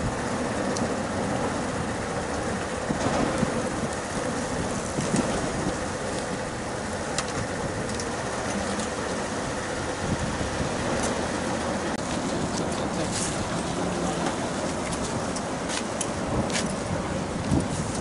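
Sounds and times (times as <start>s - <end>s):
constant low hum: 0.0s - 18.0s
traffic: 0.0s - 18.0s
wind: 0.0s - 18.0s.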